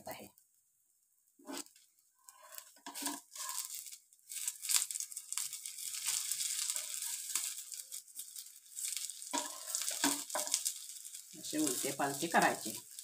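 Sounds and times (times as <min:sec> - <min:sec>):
oil sizzling: 0:00.5 - 0:13.0
spatula scraping a pan: 0:01.4 - 0:13.0.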